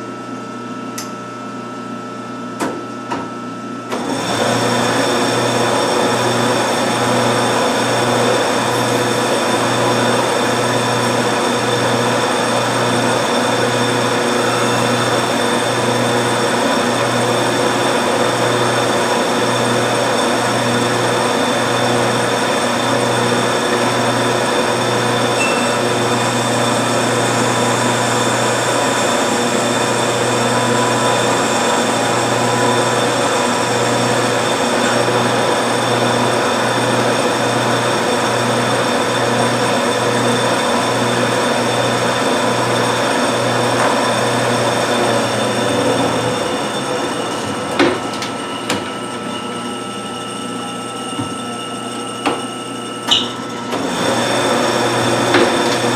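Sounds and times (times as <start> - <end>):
lathe machine drone: 3.9 - 55.9.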